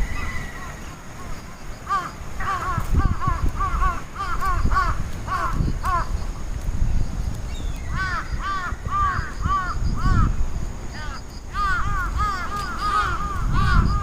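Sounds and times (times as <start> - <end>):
birds giving harsh calls: 0.0 - 6.3, 7.5 - 14.0.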